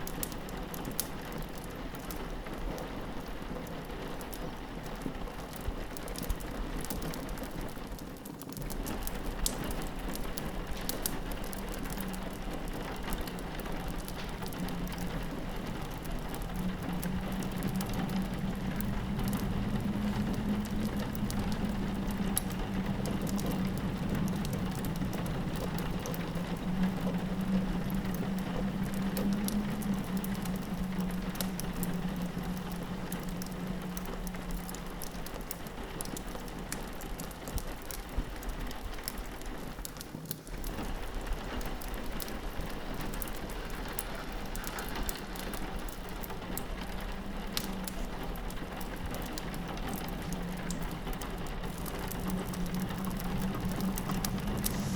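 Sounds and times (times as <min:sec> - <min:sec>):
crackling log fire: 0:00.0 - 0:54.9
low wind howl: 0:00.0 - 0:54.9
rain pattering on a window: 0:00.0 - 0:54.9.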